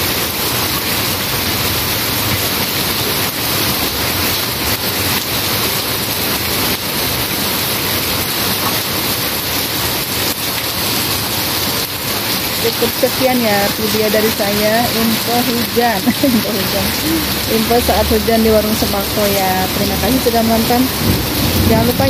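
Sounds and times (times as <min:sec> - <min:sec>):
heavy rain on roofs: 0:00.0 - 0:22.0.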